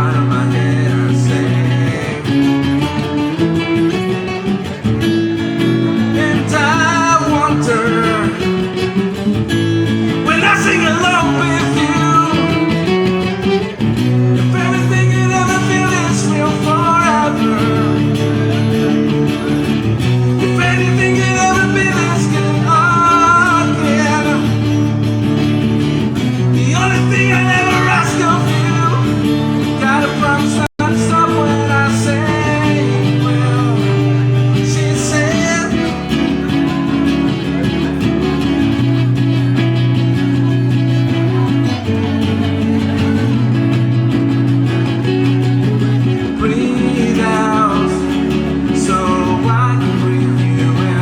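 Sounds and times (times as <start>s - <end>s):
person singing: 0.0s - 4.9s, 5.6s - 51.0s
guitar chords: 0.0s - 51.0s.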